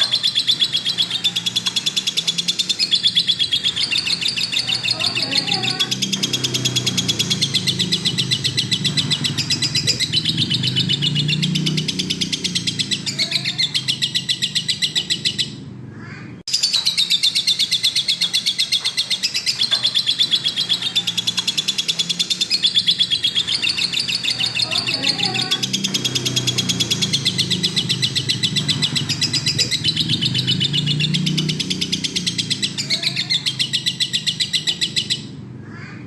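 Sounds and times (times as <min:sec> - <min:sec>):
lovebird chirping rapidly: 0:00.0 - 0:15.6, 0:16.5 - 0:35.4.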